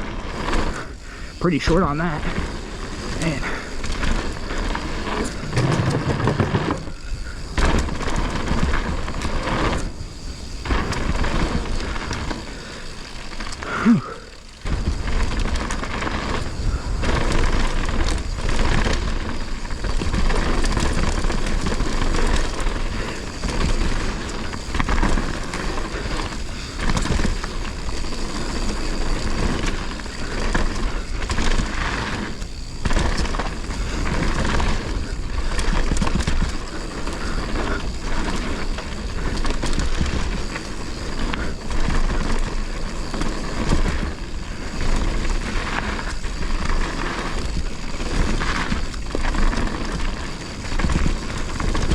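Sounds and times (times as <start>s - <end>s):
bike tyres on dirt trail: 0.0s - 51.9s
wind noise: 0.0s - 51.9s.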